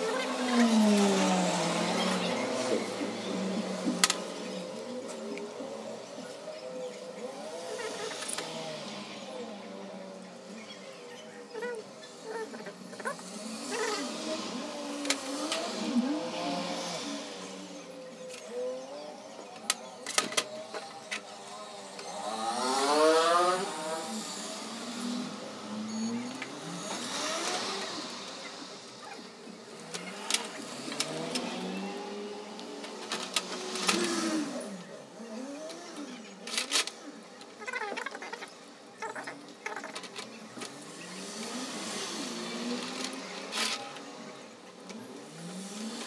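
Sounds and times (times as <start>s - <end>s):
engine running and revving: 0.0s - 46.0s.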